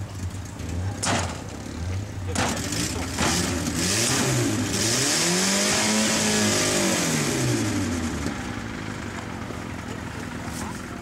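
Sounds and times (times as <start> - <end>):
car engine revving: 0.4 - 10.6.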